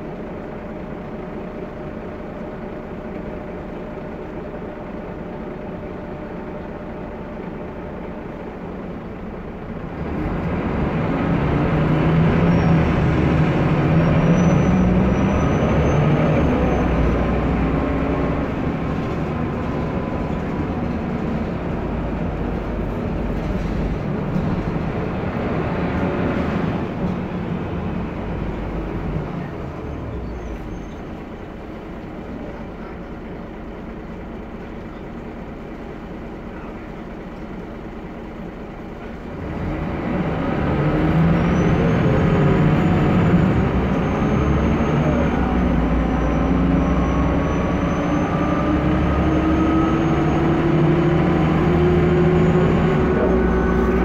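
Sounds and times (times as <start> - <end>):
bus engine idling and accelerating: 0.0 - 54.0.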